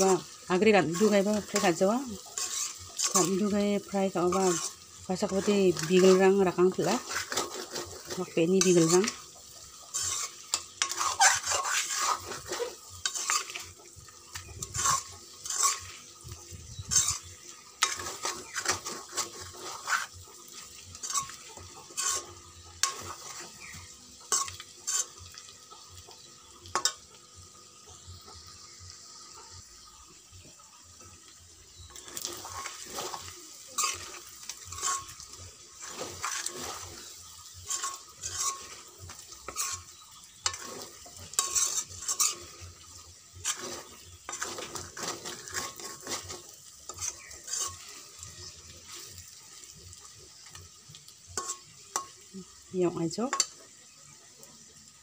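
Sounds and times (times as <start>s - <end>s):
metal spoon scraping a wok: 0.0s - 27.1s, 31.7s - 52.6s, 53.2s - 53.8s
meat sizzling: 0.0s - 55.0s.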